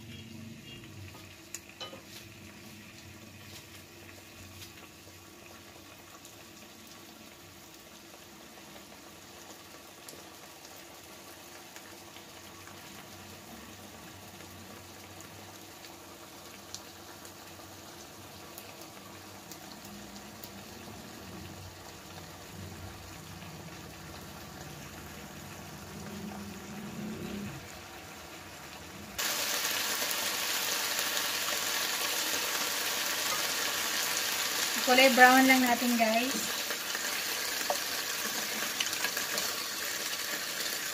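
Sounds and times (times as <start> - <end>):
marinade bubbling in a pan: 0.0 - 40.9
pork chops sizzling: 0.0 - 40.9.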